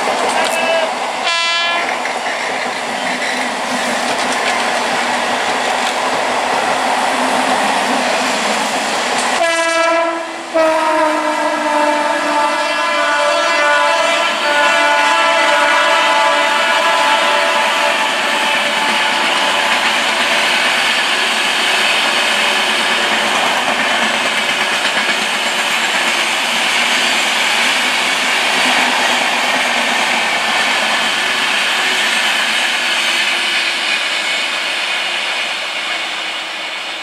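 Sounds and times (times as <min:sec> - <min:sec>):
train wheels on track: 0:00.0 - 0:37.0.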